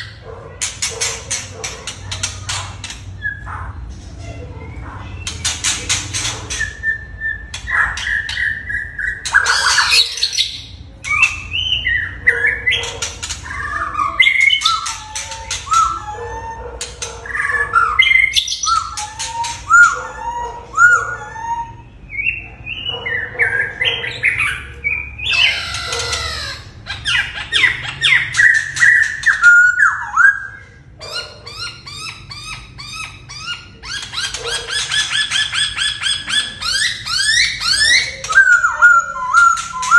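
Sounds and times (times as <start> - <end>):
birds singing whistled phrases: 0.0 - 3.8, 4.6 - 39.9
harsh rasping bird calls: 0.0 - 39.9.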